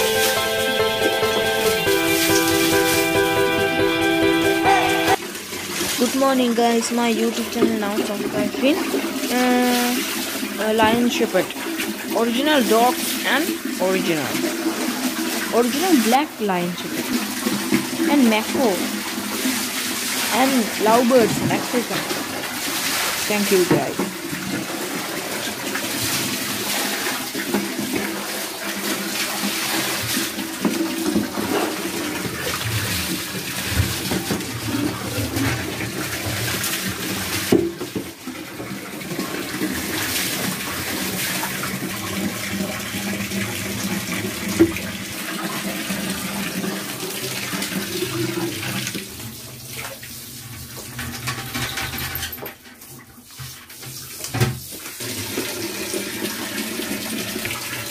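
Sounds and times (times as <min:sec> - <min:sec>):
water running and splashing: 0:04.7 - 0:57.9.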